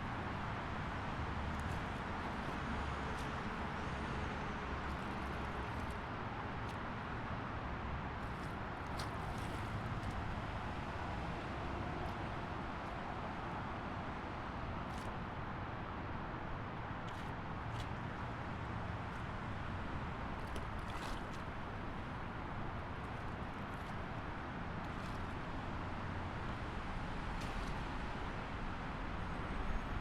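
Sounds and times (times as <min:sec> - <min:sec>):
highway traffic: 0:00.0 - 0:30.0.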